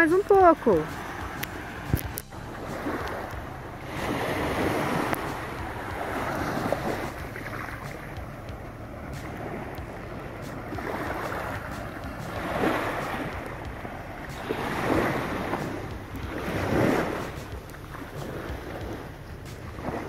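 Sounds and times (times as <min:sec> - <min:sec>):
small waves washing on beach: 0:00.0 - 0:20.0
wind buffeting microphone: 0:00.0 - 0:20.0.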